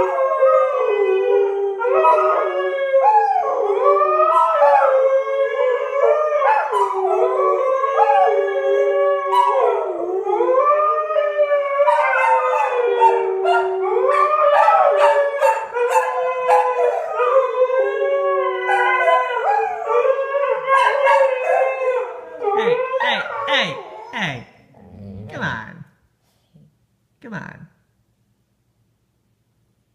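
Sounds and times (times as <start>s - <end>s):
dogs howling together: 0.0s - 24.2s.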